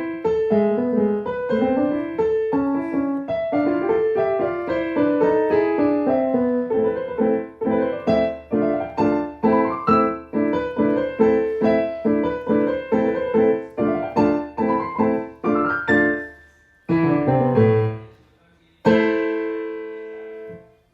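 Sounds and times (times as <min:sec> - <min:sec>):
piano playing chords: 0:00.0 - 0:18.2, 0:18.9 - 0:20.9.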